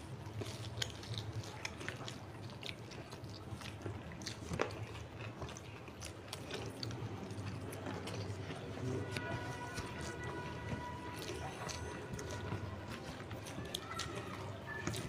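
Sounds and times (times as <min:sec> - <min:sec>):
low steady hum: 0:00.0 - 0:14.8
chewing and mouth clicks: 0:00.0 - 0:15.0
fingers mixing rice: 0:00.0 - 0:15.0.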